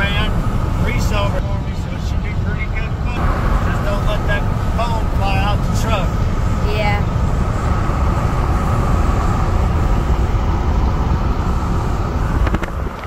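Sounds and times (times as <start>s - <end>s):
road noise inside moving car: 0.0s - 13.0s.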